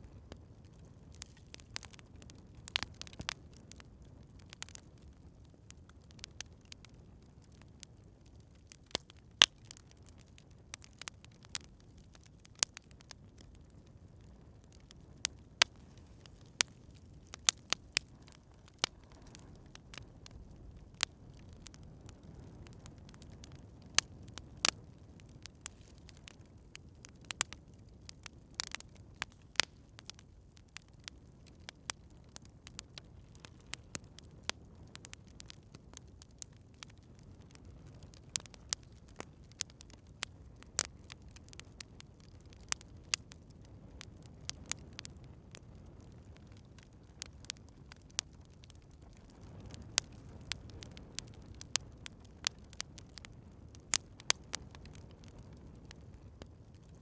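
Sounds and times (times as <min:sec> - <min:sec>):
campfire crackling: 0:00.0 - 0:57.0
low rumble of burning fire: 0:00.0 - 0:57.0.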